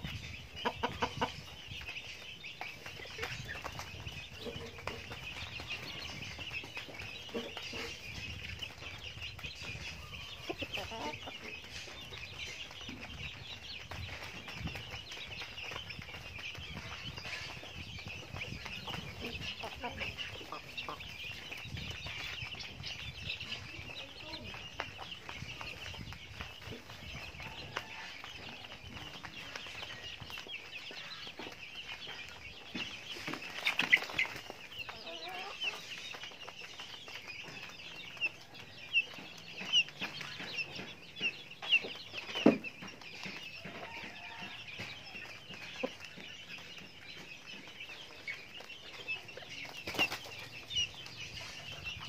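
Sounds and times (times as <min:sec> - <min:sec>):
chickens clucking: 0:00.0 - 0:52.0
chicks peeping: 0:00.0 - 0:52.0.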